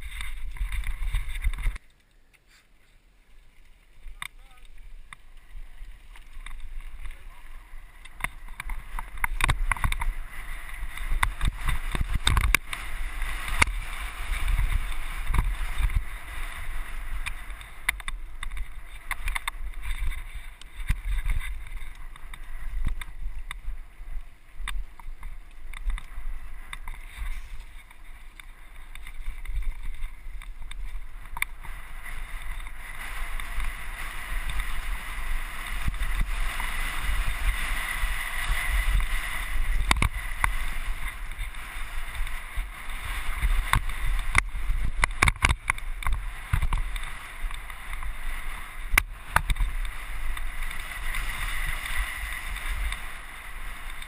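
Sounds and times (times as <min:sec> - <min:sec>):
wind buffeting camera: 0:00.0 - 0:02.1, 0:03.5 - 0:54.0
bike knocking and rattling: 0:00.0 - 0:02.6, 0:03.4 - 0:54.0
tyre noise on gravel: 0:00.0 - 0:54.0.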